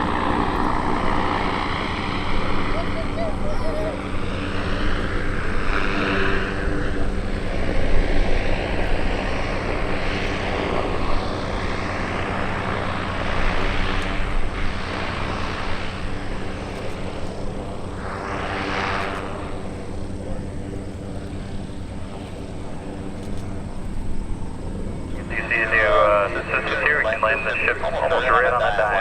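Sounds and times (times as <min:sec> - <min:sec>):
propeller engines humming: 0:00.0 - 0:29.0.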